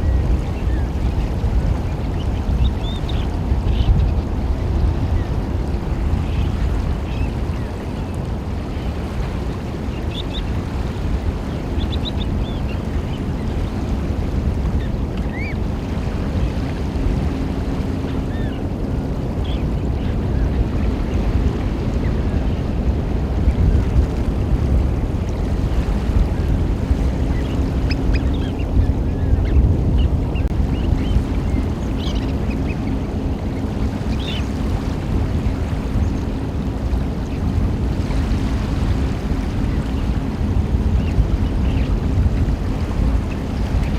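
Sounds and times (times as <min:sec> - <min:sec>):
low rumble of surf: 0:00.0 - 0:43.9.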